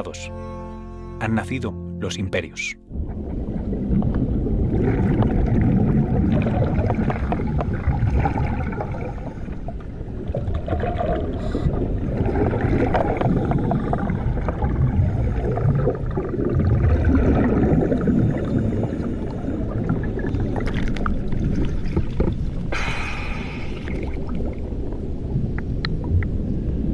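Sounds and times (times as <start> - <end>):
underwater air bubbles gurgling: 2.9 - 26.9.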